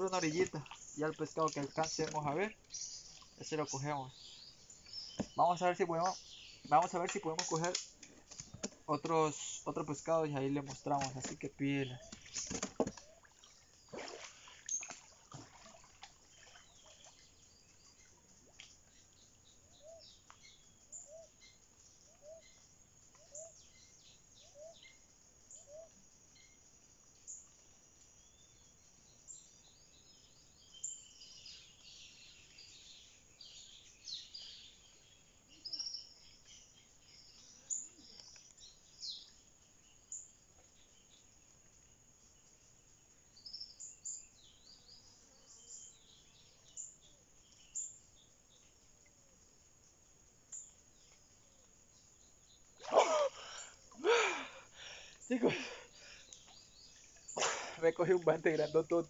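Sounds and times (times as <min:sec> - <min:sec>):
faint birds chirping: 0:00.0 - 0:59.0.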